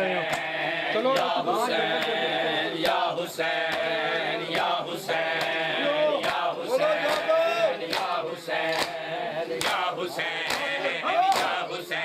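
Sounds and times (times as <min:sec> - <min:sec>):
men chanting a lament: 0:00.0 - 0:12.0
rhythmic chest-beating: 0:00.0 - 0:12.0.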